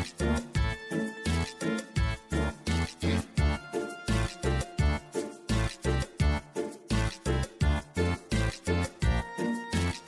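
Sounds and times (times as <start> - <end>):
upbeat music with bouncy beat: 0.0 - 10.0.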